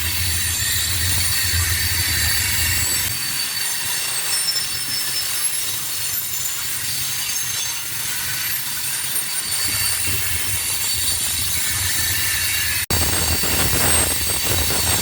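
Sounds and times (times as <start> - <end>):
train wheels squealing on rails: 0.0 - 15.0.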